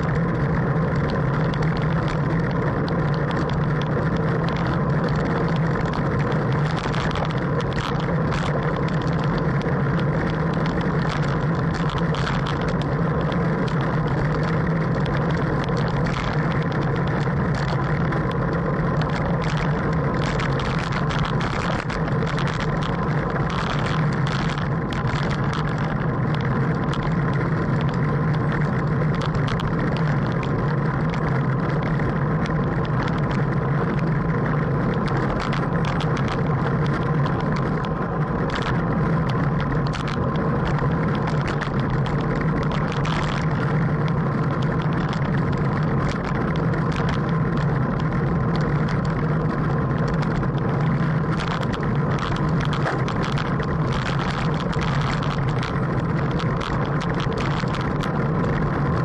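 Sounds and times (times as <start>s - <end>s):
muffled wind and road rush: 0.0s - 59.0s.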